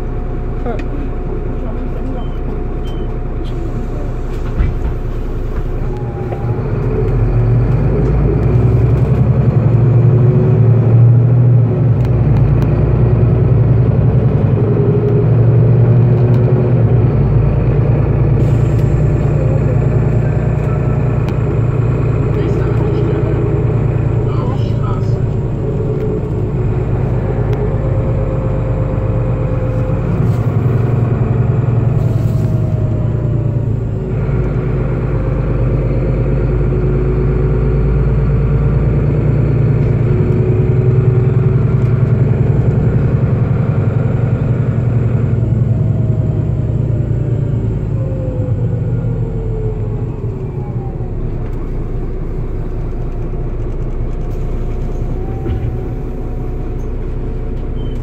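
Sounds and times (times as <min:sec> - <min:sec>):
bus drivetrain drone: 0:00.0 - 0:58.0
rising and falling whine: 0:05.7 - 0:58.0.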